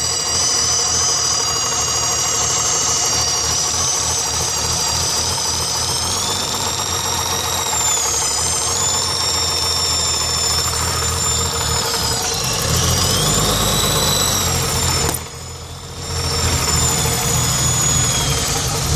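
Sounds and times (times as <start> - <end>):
engine knock: 0.0 - 18.9
engine running: 0.0 - 18.9.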